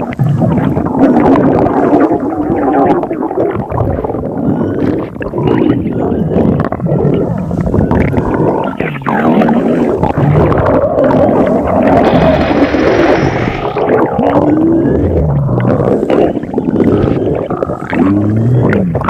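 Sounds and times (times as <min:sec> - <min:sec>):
stomach growling: 0:00.0 - 0:19.0.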